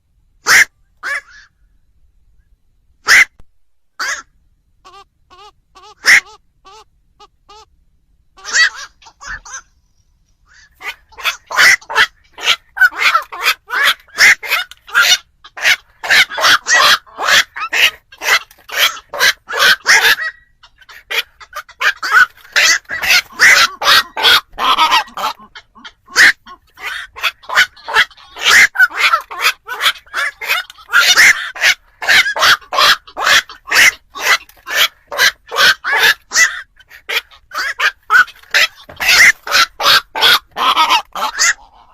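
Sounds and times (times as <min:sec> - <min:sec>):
herons calling rapidly: 0:00.4 - 0:01.6, 0:03.0 - 0:41.9.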